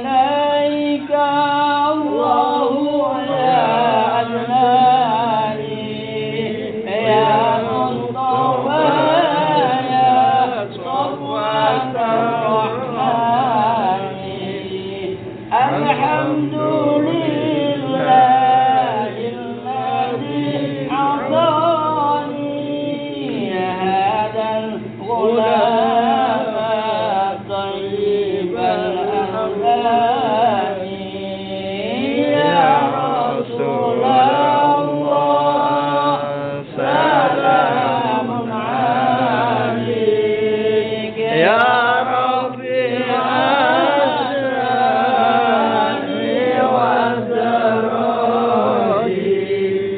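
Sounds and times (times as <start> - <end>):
men chanting devotional melody: 0.0 - 49.9.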